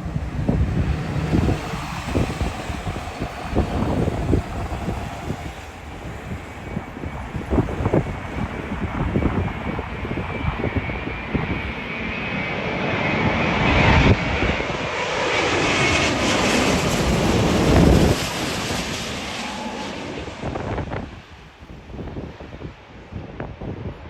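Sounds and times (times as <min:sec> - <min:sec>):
high engine whine: 0:00.0 - 0:21.6
airliner engine roar: 0:00.0 - 0:24.0
wind buffeting microphone: 0:00.0 - 0:24.0.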